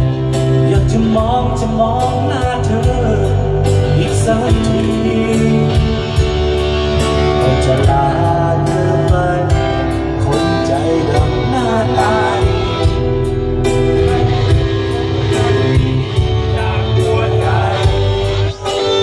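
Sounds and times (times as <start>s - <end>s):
steady drum beat: 0.0s - 10.0s, 10.7s - 19.0s
electric guitar: 0.0s - 19.0s
keyboard: 0.0s - 19.0s
person singing: 0.0s - 19.0s.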